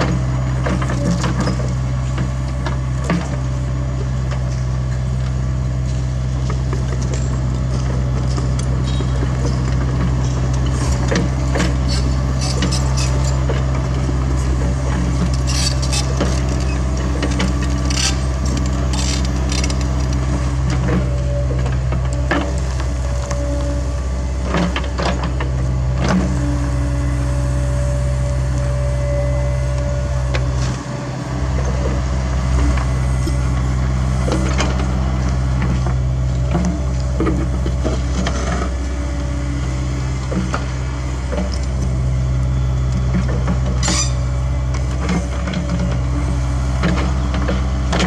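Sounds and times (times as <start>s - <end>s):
excavator engine humming: 0.0s - 48.0s.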